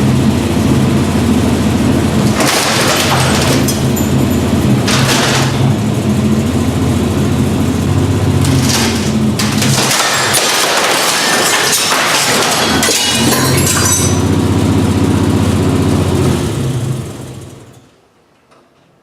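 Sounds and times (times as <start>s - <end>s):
loud engine with crackling exhaust: 0.0s - 17.9s.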